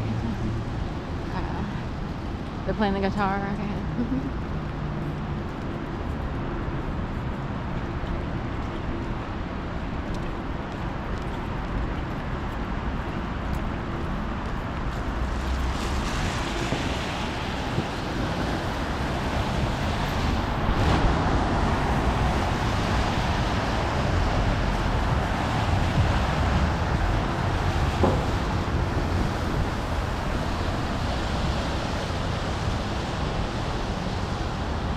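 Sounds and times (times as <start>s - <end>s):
traffic on wet pavement: 0.0s - 34.9s.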